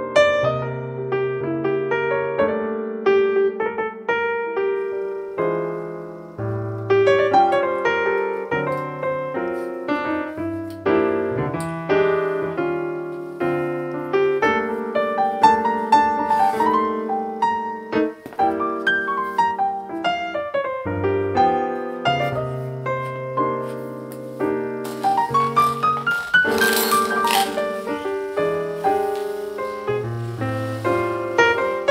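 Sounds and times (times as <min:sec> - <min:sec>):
piano music: 0:00.0 - 0:31.9.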